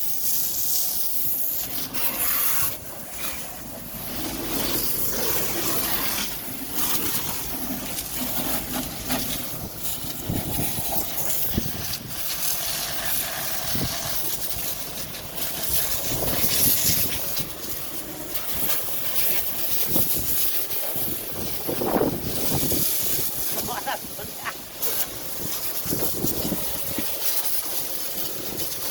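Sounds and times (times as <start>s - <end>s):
water spraying onto vehicle: 0.0s - 28.9s.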